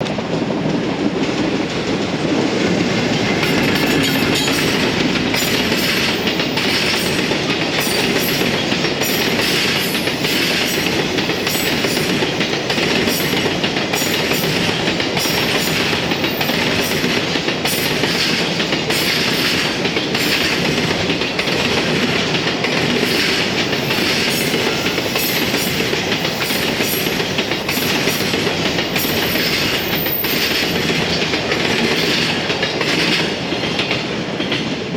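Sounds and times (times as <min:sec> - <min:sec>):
freight train passing: 0:00.0 - 0:34.9
wheels clicking over rail joints: 0:00.0 - 0:34.9.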